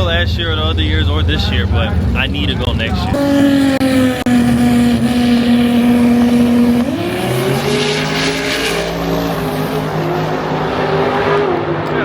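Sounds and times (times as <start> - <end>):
racing car engine running hard: 0.0 - 12.0.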